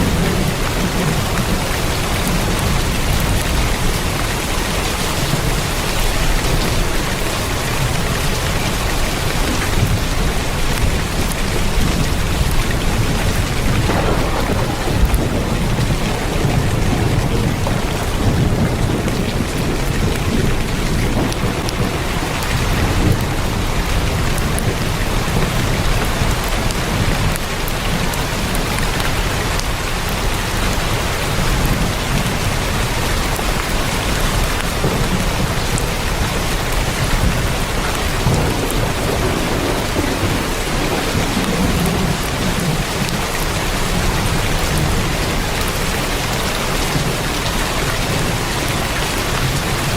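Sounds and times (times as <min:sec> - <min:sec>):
heavy rain on a tin roof: 0:00.0 - 0:49.9.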